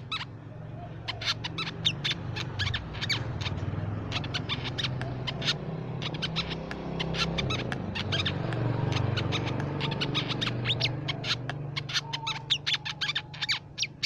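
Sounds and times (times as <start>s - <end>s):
bird chipping calls: 0.0s - 14.0s.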